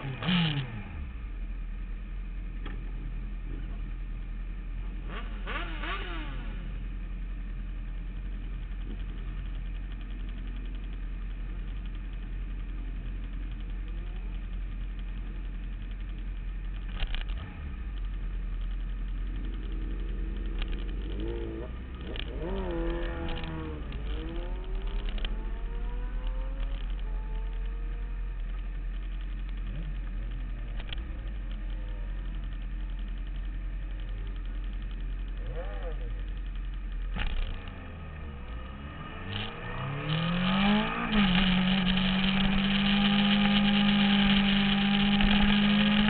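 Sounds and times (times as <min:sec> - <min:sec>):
motorcycle engines idling: 0:00.0 - 0:46.0
motorcycle engines revving: 0:00.0 - 0:46.0.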